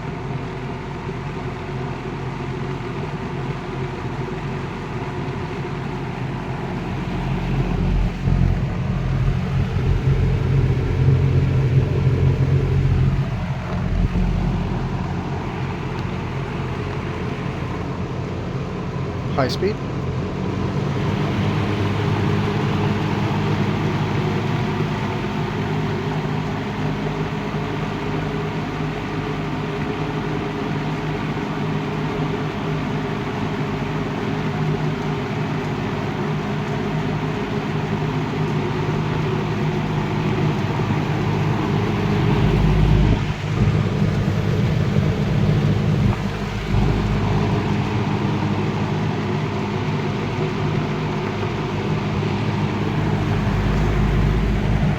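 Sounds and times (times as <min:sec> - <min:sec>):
low rumbles: 0:00.0 - 0:32.4, 0:36.4 - 0:54.9
box fan running: 0:00.0 - 0:54.9.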